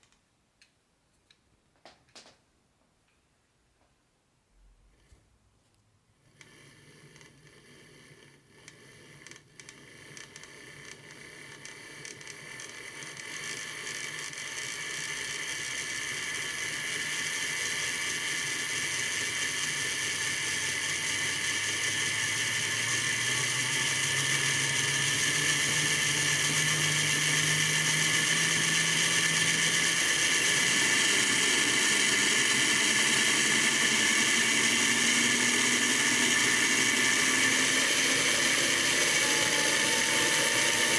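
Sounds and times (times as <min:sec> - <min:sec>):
model train motor whirring: 0:06.2 - 0:40.9.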